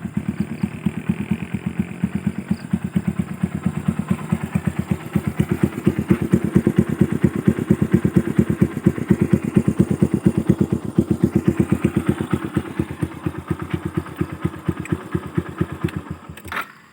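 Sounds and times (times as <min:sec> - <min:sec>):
motorcycle engine idling: 0:00.0 - 0:16.5.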